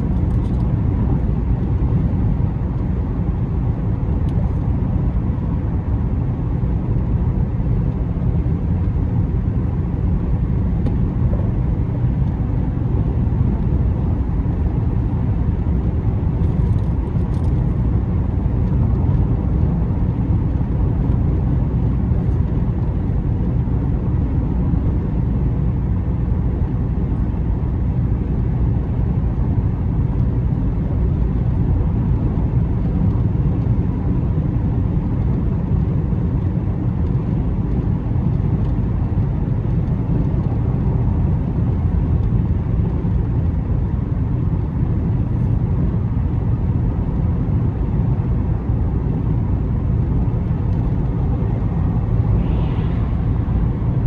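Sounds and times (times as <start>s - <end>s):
car driving: 0.0s - 54.0s.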